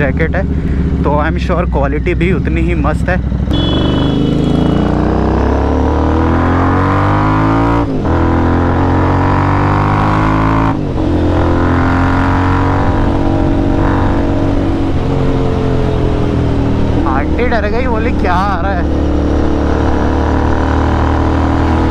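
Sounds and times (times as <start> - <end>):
motorcycle accelerating through gears: 0.0 - 1.5, 3.2 - 21.9.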